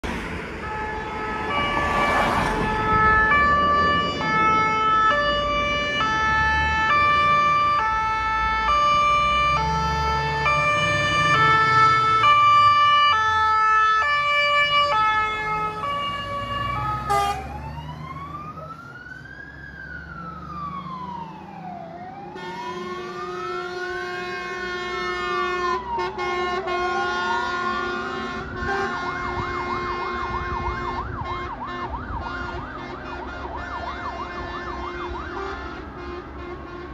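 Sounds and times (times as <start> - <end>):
diesel engine rumbling: 0.0 - 36.9
wailing siren: 0.0 - 36.9
fire engine air horns: 0.5 - 17.6, 22.3 - 36.9.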